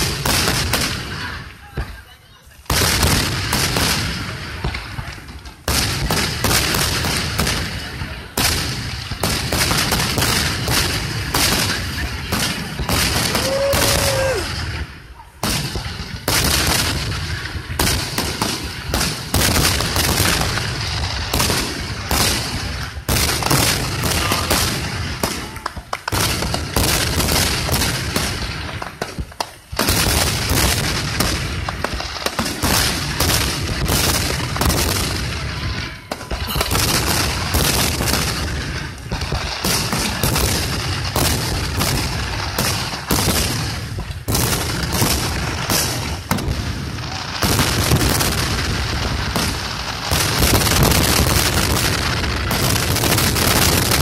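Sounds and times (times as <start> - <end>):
fireworks booming: 0.0 - 54.0.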